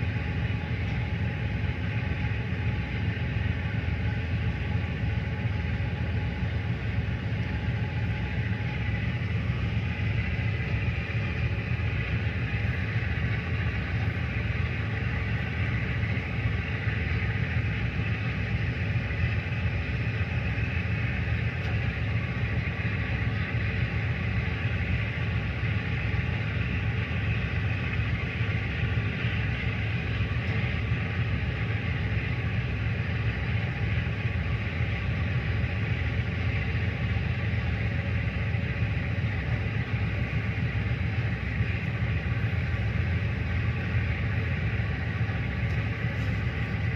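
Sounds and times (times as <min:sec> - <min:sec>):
diesel boat engine rumbling: 0:00.0 - 0:46.9.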